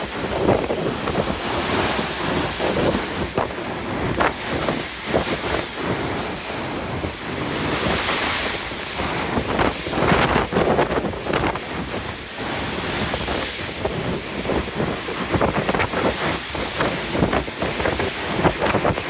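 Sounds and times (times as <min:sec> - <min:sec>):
rough ocean waves: 0:00.0 - 0:19.0
wind buffeting microphone: 0:00.0 - 0:19.0.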